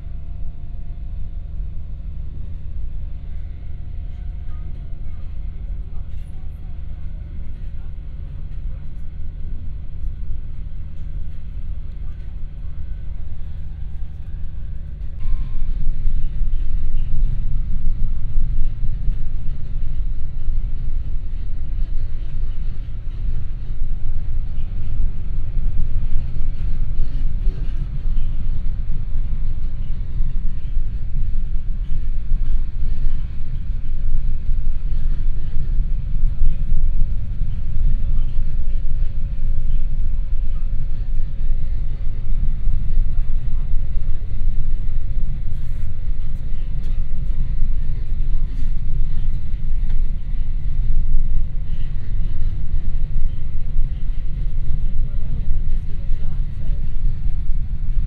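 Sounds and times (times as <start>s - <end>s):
faint hum: 0.0s - 58.0s
train running rumble: 0.0s - 58.0s.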